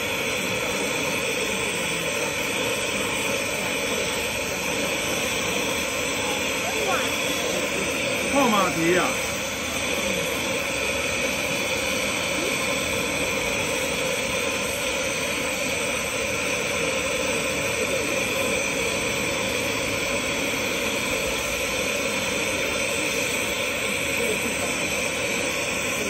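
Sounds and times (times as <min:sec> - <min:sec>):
bench torch rushing hiss: 0:00.0 - 0:26.0.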